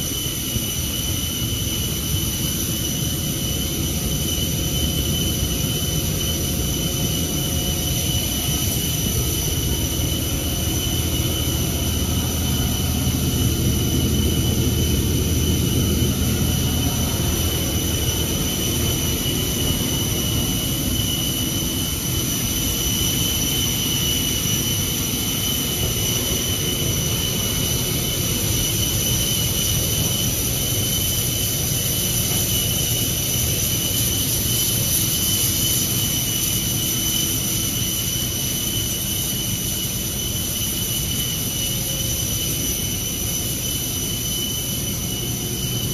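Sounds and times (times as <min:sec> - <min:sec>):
aircraft turbine whine: 0:00.0 - 0:45.9.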